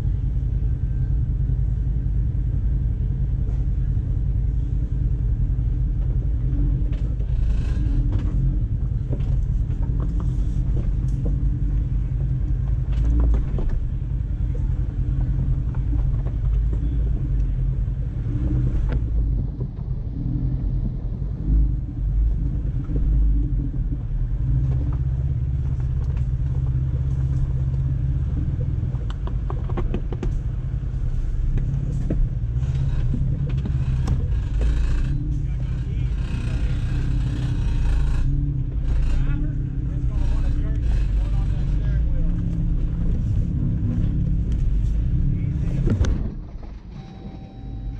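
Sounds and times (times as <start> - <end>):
engine rumbling: 0.0 - 47.9.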